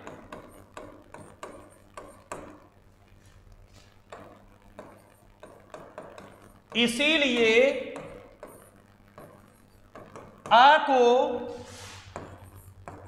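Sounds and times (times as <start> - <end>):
chalk tapping and scratching: 0.0 - 10.6, 11.5 - 13.0.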